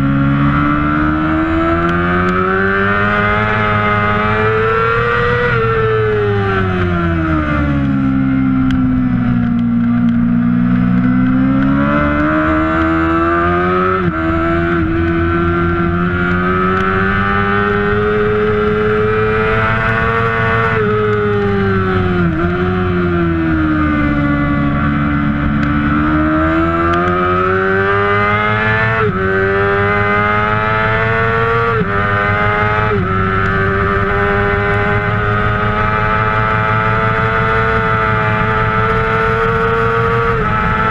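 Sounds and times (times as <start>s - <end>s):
motorcycle engine racing: 0.0s - 40.9s
gear changes: 0.2s - 40.9s.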